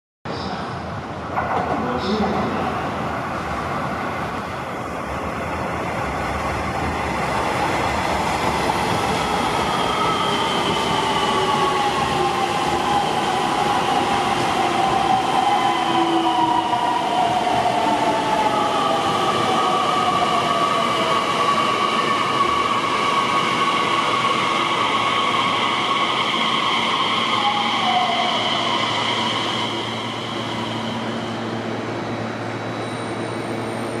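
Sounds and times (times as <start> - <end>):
low steady train hum: 0.3 - 22.8, 24.1 - 34.0
electric train whine: 3.2 - 34.0.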